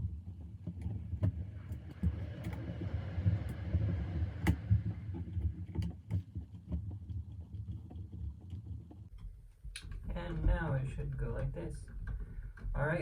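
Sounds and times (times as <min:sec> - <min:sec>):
plastic parts knocking: 0:00.0 - 0:13.0.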